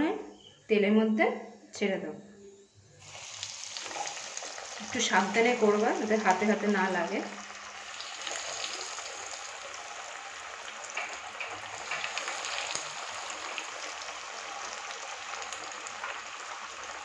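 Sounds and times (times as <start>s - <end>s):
cutlets sizzling in hot oil: 3.0s - 17.0s
oil crackling and popping: 3.0s - 17.0s.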